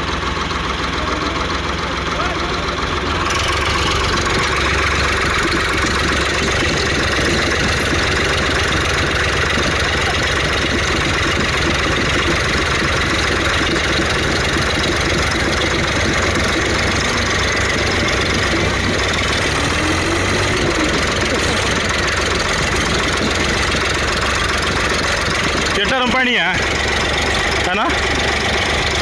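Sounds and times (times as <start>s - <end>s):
tractor diesel engines running: 0.0s - 29.0s.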